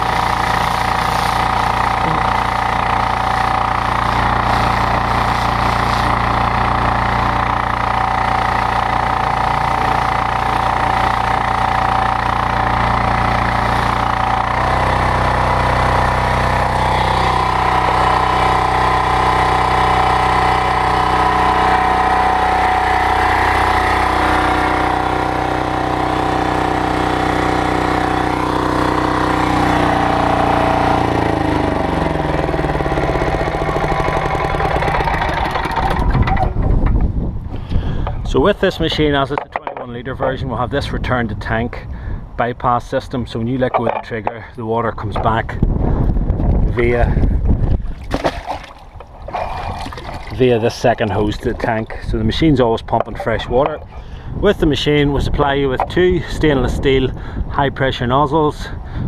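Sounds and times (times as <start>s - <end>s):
pressure washer engine running: 0.0s - 38.4s, 47.0s - 57.4s.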